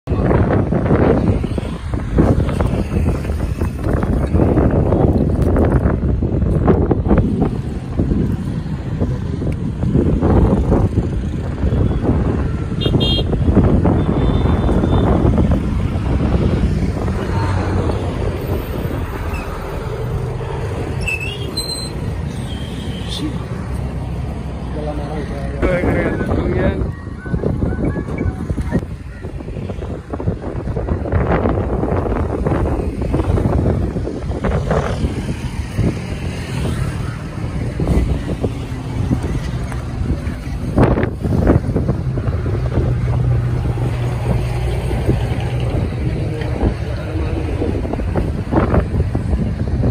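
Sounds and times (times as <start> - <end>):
wind buffeting microphone: 0.0 - 22.5, 23.2 - 49.9
traffic rumble on bridge: 0.0 - 49.9.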